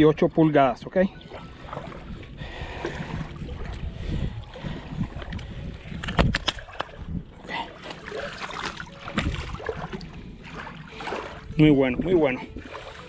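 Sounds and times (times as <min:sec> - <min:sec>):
water lapping on concrete: 0:01.0 - 0:13.0
wind buffeting microphone: 0:01.1 - 0:13.0.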